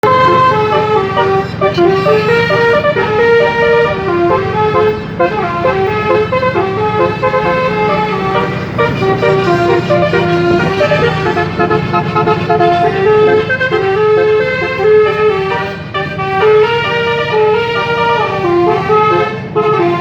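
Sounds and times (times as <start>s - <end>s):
bus multi-tone horn tune: 0.0s - 20.0s.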